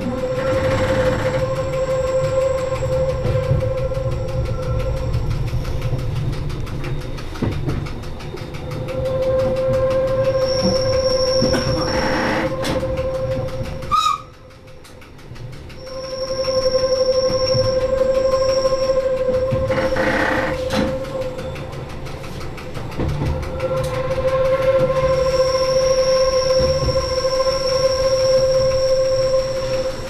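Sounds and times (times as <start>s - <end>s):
wheel squeal on curves: 0.0s - 14.5s, 15.7s - 30.0s
rail noise: 0.0s - 30.0s.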